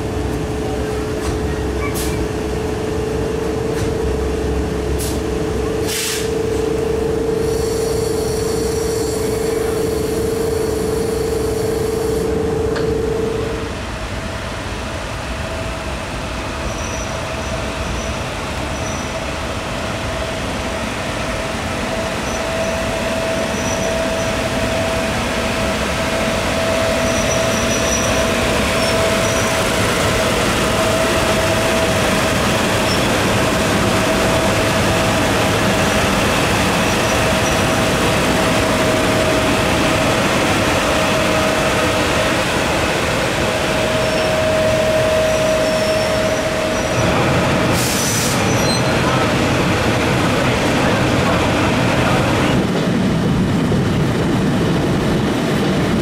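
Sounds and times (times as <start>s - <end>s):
electric locomotive humming: 0.0s - 56.0s
train rumble: 0.0s - 56.0s.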